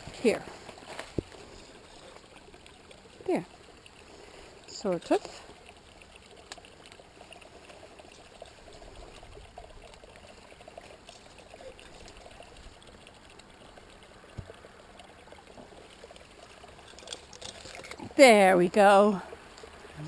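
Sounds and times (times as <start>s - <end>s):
stream trickling and gurgling: 0.0s - 20.0s.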